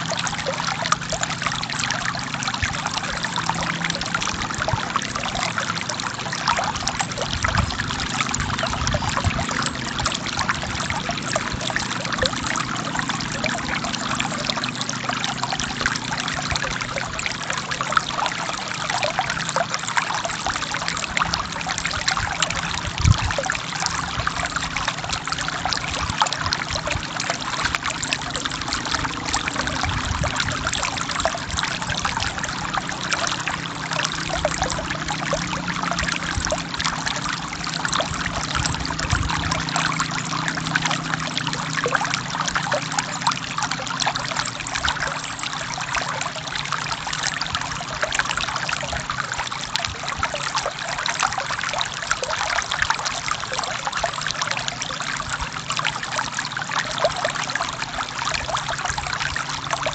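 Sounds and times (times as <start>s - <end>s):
stream splashing over rocks: 0.0s - 59.9s.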